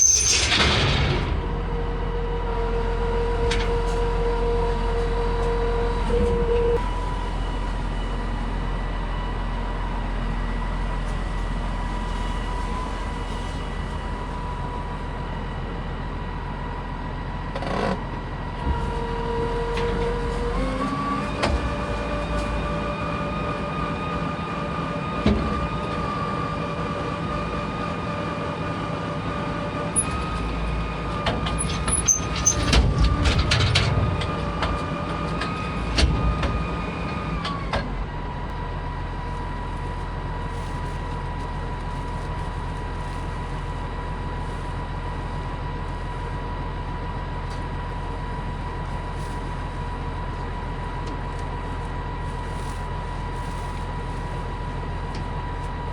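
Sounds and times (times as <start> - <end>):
farm vehicle engine whining: 0.0 - 55.9.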